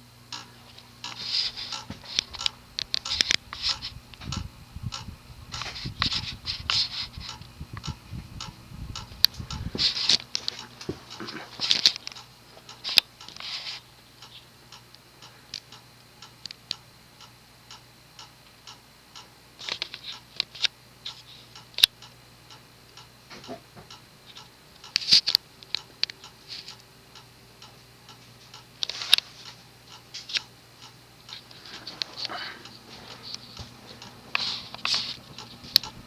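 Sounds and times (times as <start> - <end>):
ceiling fan motor buzzing: 0.0 - 36.0
sharp ticks from fan: 0.0 - 36.0.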